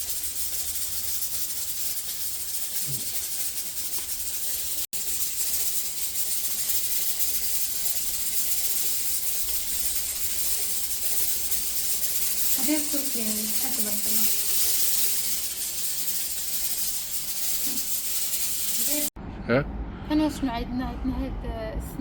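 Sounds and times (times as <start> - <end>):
food hissing on a stove: 0.0 - 19.2.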